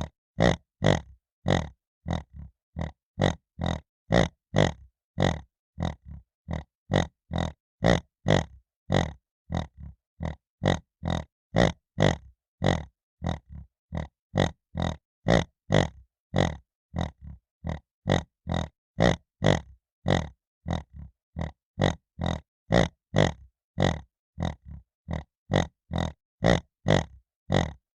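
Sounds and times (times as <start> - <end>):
piglet grunting: 0.0 - 27.8.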